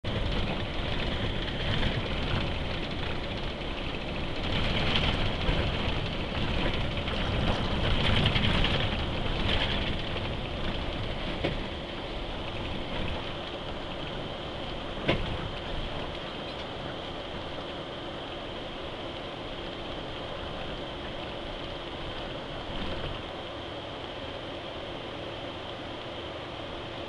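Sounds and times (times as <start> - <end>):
road and tyre noise: 0.0 - 27.0.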